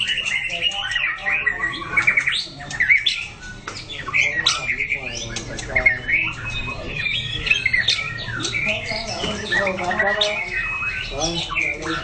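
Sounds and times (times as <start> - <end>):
bird singing varied song: 0.0 - 12.0.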